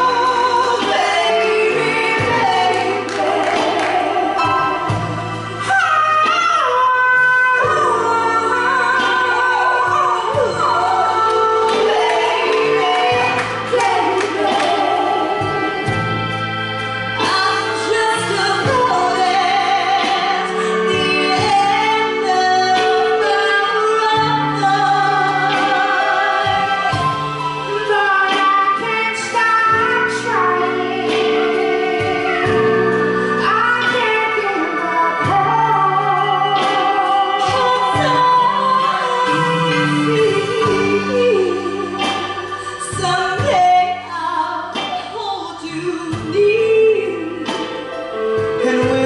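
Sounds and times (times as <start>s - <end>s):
live band playing soul song: 0.0s - 49.0s
woman singing: 0.0s - 49.0s.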